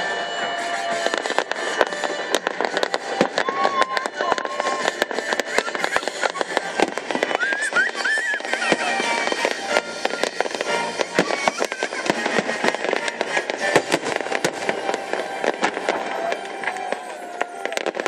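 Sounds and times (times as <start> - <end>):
fireworks bangs and crackling: 0.0 - 18.0
music playing: 0.0 - 18.0.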